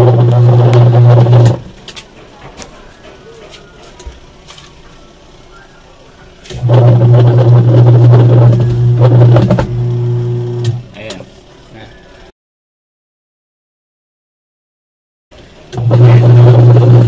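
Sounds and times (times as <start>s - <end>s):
washing machine motor hum: 0.0s - 12.2s, 15.4s - 17.0s.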